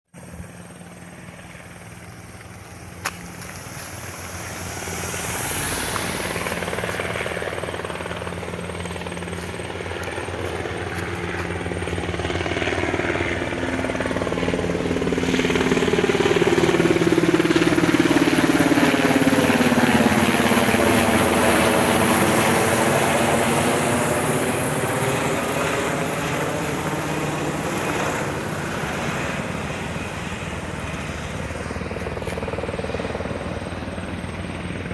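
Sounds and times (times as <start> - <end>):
helicopters flying past: 0.2 - 34.9.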